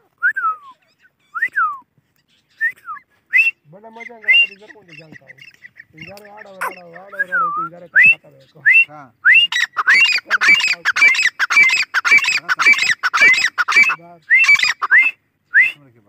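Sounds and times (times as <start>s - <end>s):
francolin calling: 0.0s - 15.9s.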